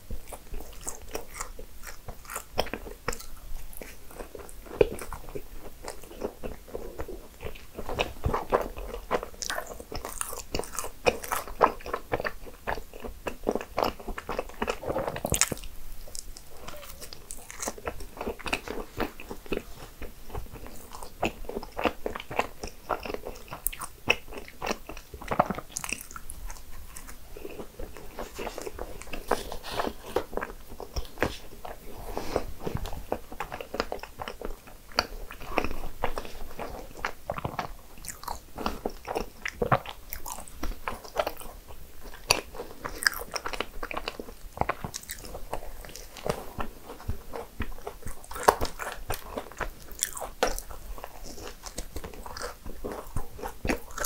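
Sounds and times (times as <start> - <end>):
person biting and chewing: 0.2 - 19.7, 20.3 - 54.0.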